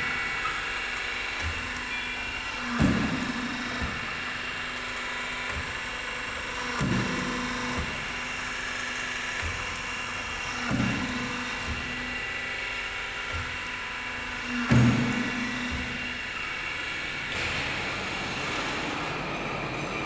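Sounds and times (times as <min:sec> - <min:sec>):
crimping machine motor hum: 0:00.0 - 0:20.0.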